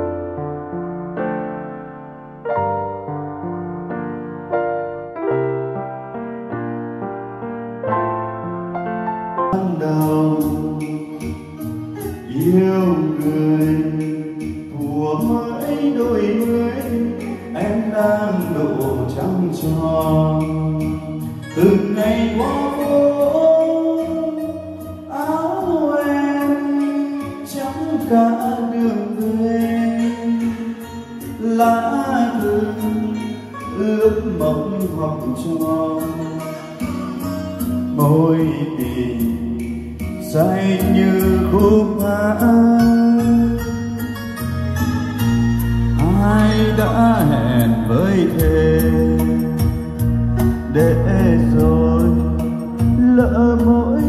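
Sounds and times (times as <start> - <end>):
backing track: 0.0 - 54.0
man singing into a microphone: 9.5 - 54.0.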